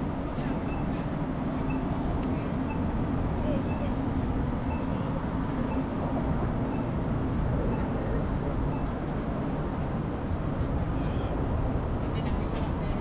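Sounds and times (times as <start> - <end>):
wind rumble: 1.2 - 13.0.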